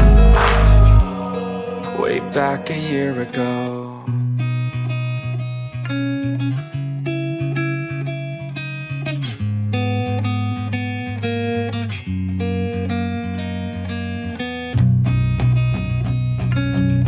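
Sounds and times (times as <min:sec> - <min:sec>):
plucked guitar music with bass: 0:00.0 - 0:03.0, 0:04.2 - 0:17.0.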